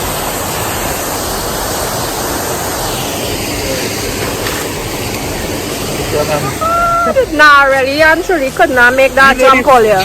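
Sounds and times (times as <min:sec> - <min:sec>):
waterfall rushing into pool: 0:00.0 - 0:10.0.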